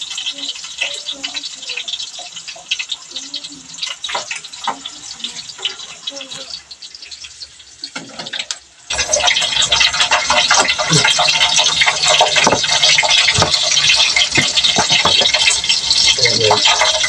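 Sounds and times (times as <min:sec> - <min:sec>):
ginger sizzling in hot oil: 0:00.0 - 0:17.0
spoon stirring in a pan: 0:00.0 - 0:17.0.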